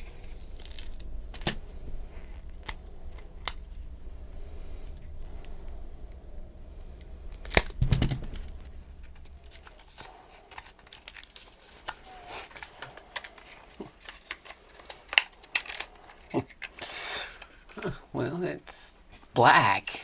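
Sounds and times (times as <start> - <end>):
light rustling and tearing: 0.0 - 17.8.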